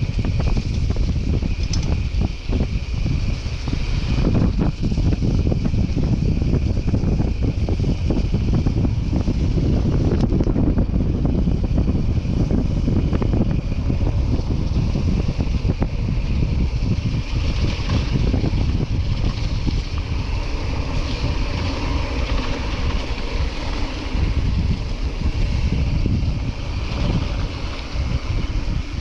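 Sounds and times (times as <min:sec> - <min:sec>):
bike rattles and knocks: 0:00.0 - 0:29.0
mountain bike rumbling on trail: 0:00.0 - 0:29.0
wind buffeting microphone: 0:00.0 - 0:29.0.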